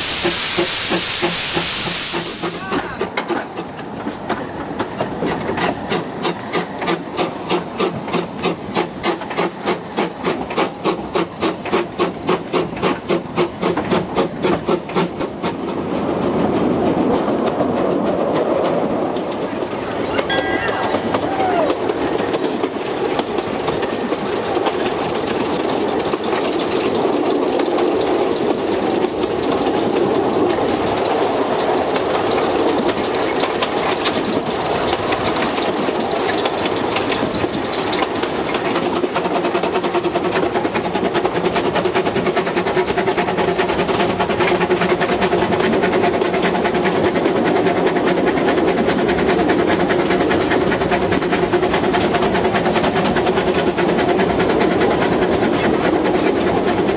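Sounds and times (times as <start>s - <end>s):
train wheels clattering on rails: 0.0s - 56.9s.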